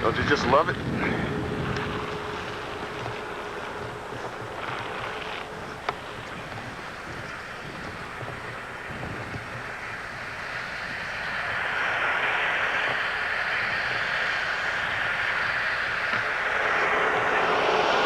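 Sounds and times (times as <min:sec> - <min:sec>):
rushing engine noise: 0:00.0 - 0:18.0.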